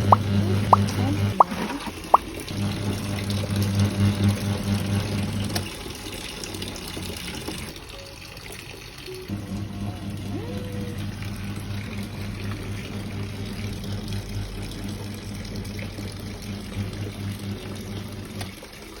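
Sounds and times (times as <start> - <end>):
washing machine motor hum: 0.0 - 19.0
water churning in tub: 0.0 - 19.0.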